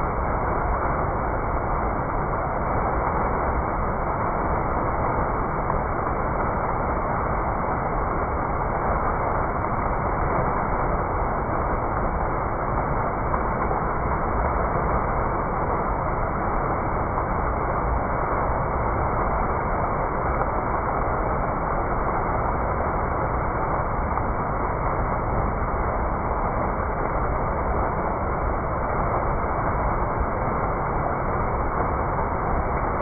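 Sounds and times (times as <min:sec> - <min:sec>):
fountain water splashing: 0:00.0 - 0:33.0.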